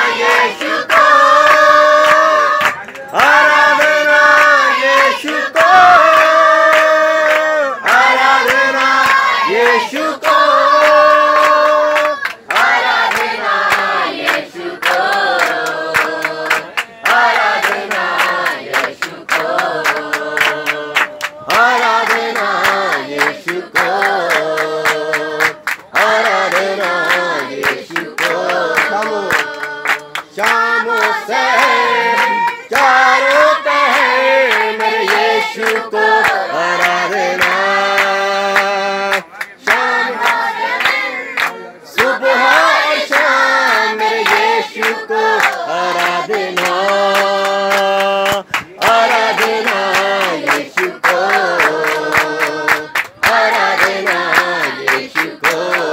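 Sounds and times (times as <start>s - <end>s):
women singing in unison: 0.0s - 38.7s, 39.7s - 55.9s
hand clapping: 0.2s - 55.9s.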